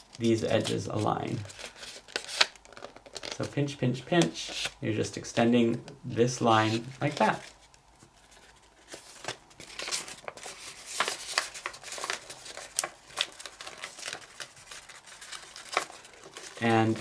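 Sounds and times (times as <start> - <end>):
paper crinkling: 0.1 - 3.5, 6.5 - 17.0.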